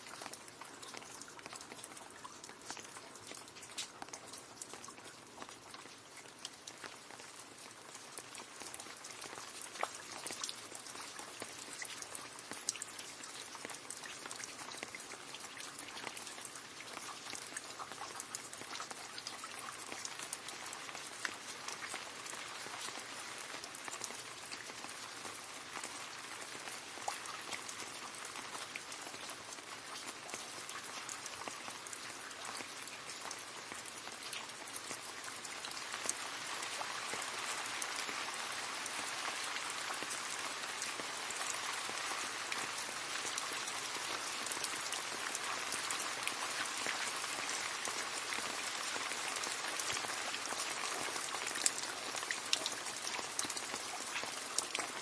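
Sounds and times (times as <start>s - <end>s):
rain splashing into a puddle: 0.0s - 55.0s.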